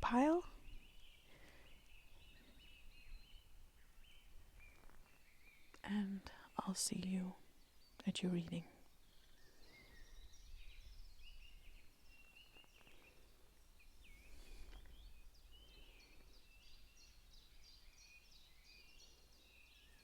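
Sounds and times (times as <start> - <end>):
small birds chirping and trilling: 0.0 - 20.0.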